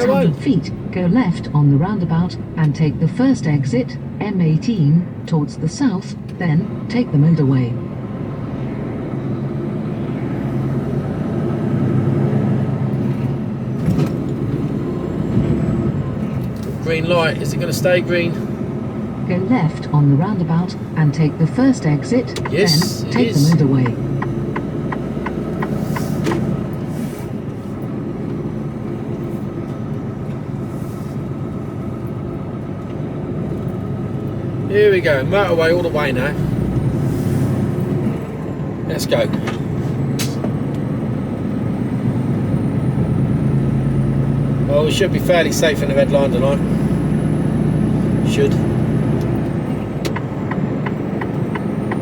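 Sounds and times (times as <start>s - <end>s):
truck diesel engine droning: 0.0s - 52.0s.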